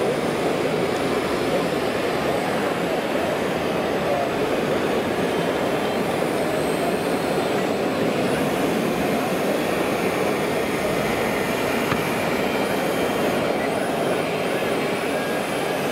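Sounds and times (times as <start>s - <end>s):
indoor hall crowd roar: 0.0s - 15.9s.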